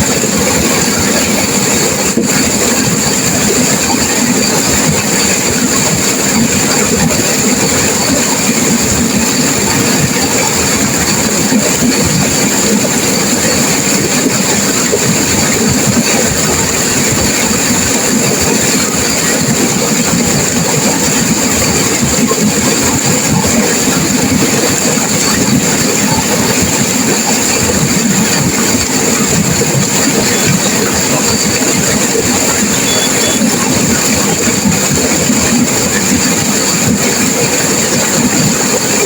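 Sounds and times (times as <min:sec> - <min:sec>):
river water rushing: 0:00.1 - 0:39.0.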